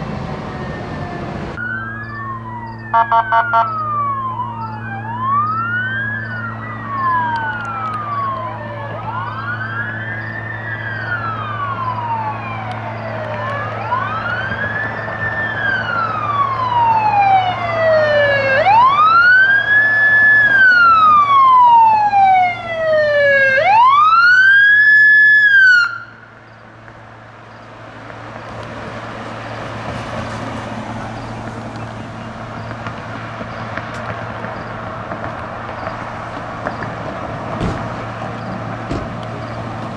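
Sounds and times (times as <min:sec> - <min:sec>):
police sirens wailing: 0:00.0 - 0:26.4, 0:29.5 - 0:39.9
road traffic noise: 0:00.0 - 0:39.9.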